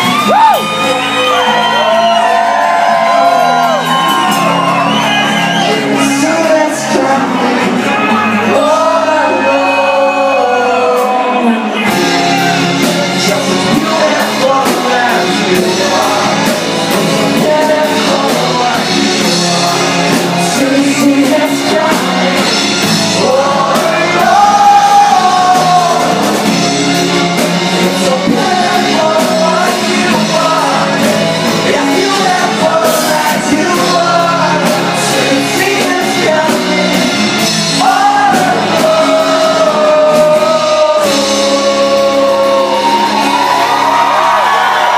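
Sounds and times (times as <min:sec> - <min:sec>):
man singing: 0:00.0 - 0:44.4
electric bass: 0:00.0 - 0:44.9.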